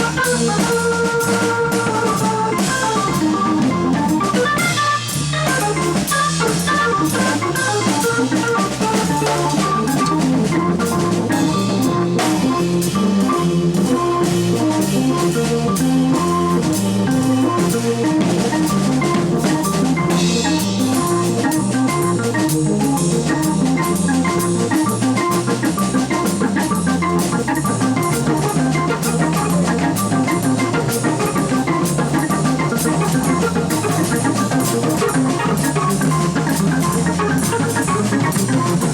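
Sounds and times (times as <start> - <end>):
drum kit cymbal and snare: 0.0 - 38.9
low bass line: 0.0 - 38.9
organ chords: 0.0 - 38.9.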